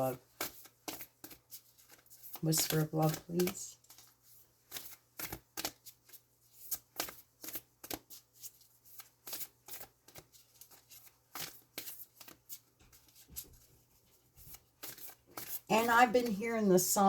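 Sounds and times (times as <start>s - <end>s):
cards being shuffled: 0.2s - 16.5s.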